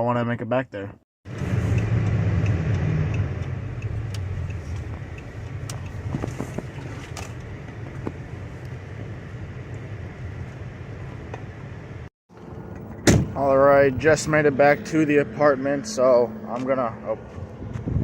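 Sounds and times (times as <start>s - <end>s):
road noise: 1.2s - 18.0s
car engine hum: 1.3s - 18.0s.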